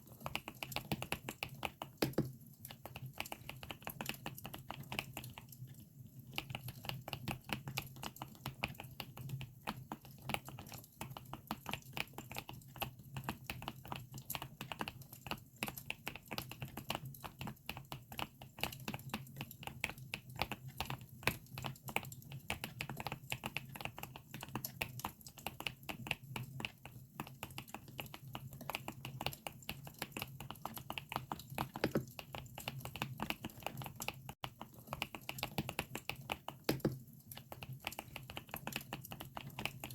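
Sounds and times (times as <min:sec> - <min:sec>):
rapid mechanical keyboard typing: 0:00.1 - 0:05.7, 0:06.3 - 0:39.9.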